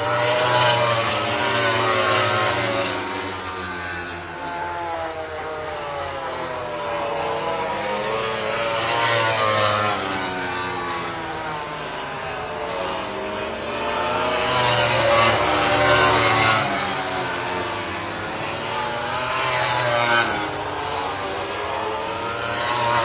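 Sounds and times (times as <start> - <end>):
racing motorcycle engines: 0.0 - 23.0.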